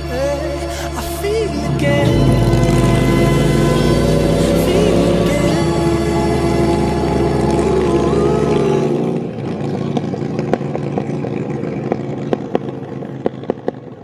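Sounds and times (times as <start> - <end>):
motorcycle engine pulling away: 1.1 - 14.0.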